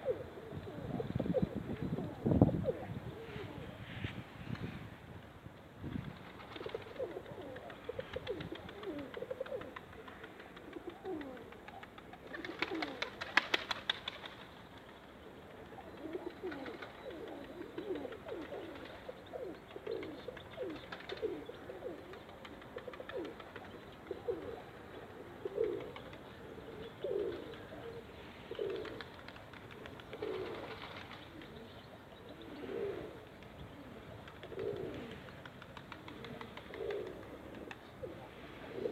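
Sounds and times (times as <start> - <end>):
pigeons cooing: 0.0 - 3.8, 6.2 - 14.4, 15.5 - 38.9.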